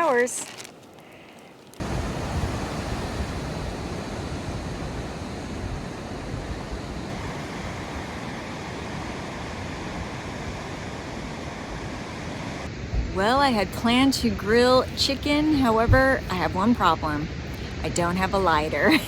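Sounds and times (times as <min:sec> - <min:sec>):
wind: 0:00.0 - 0:19.0
ocean surf rushing: 0:01.8 - 0:19.0.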